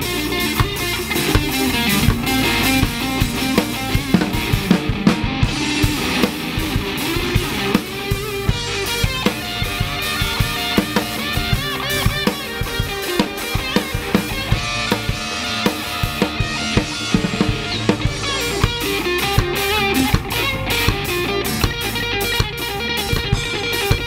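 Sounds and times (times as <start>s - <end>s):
ska band playing: 0.0s - 24.0s.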